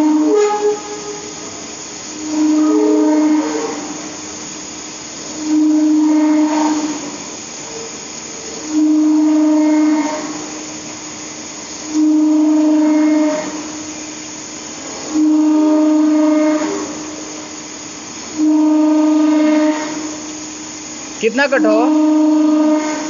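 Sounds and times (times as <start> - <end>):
machine hiss: 0.0 - 23.0.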